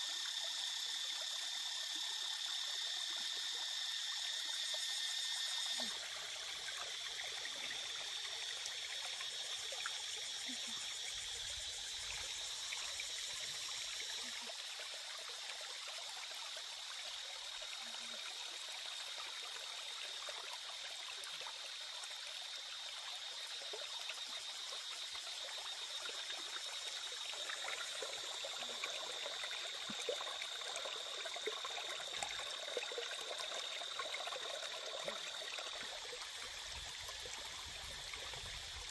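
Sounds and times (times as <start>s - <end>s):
stream trickling over rocks: 0.0s - 38.9s
light water splashes and drips: 5.6s - 38.9s.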